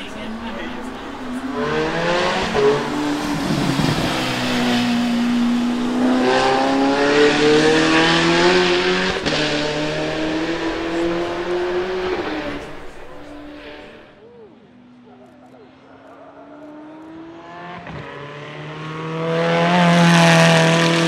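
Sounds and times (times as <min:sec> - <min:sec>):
car engine accelerating: 0:00.0 - 0:14.2, 0:14.9 - 0:21.0.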